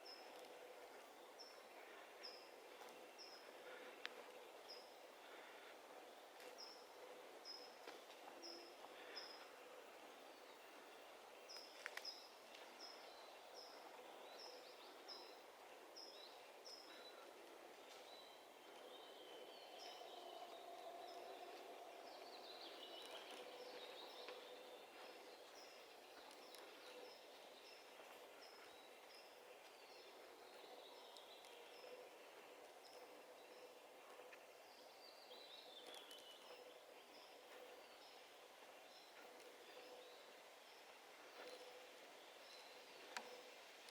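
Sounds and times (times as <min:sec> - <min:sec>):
soft steady hiss: 0:00.0 - 0:43.9.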